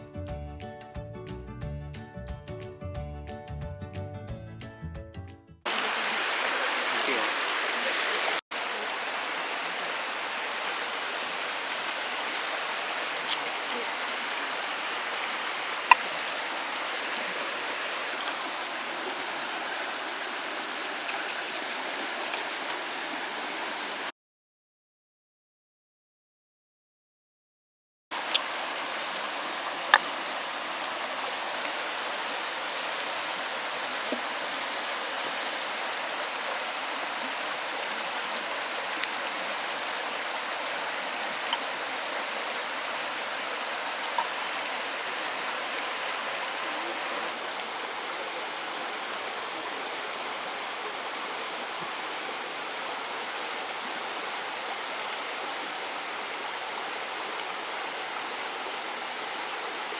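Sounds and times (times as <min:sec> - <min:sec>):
flowing water rushing: 0:05.7 - 0:24.1, 0:28.1 - 0:59.9.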